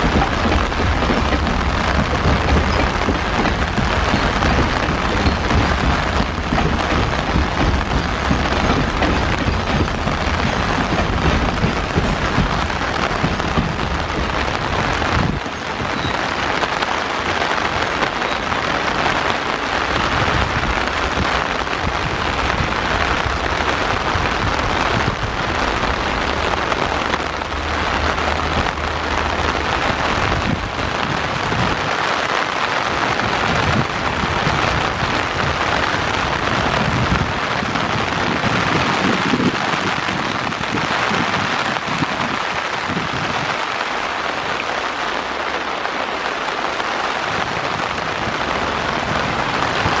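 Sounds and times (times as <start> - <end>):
freight train rumble: 0.0 - 50.0
heavy rain falling: 0.0 - 50.0.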